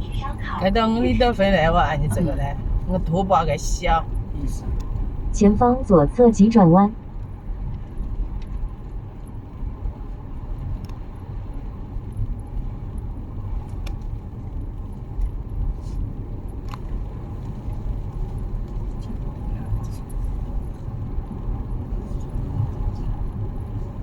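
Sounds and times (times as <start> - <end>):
car interior road and engine rumble: 0.0 - 24.0.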